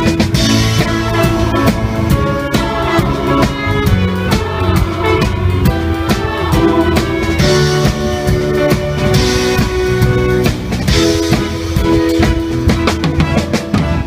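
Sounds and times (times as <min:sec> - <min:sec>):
held horn notes: 0:00.0 - 0:14.0
live band playing: 0:00.0 - 0:14.0
steady drum beat: 0:00.0 - 0:14.0.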